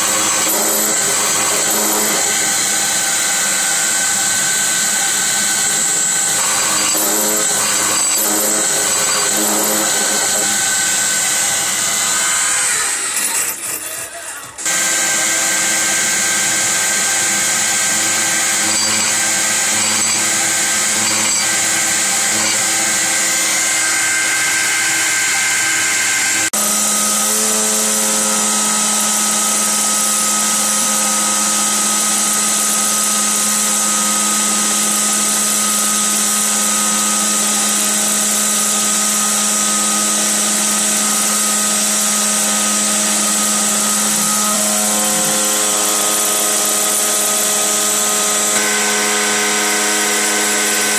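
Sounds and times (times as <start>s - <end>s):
milling machine cutting metal: 0.0s - 50.9s.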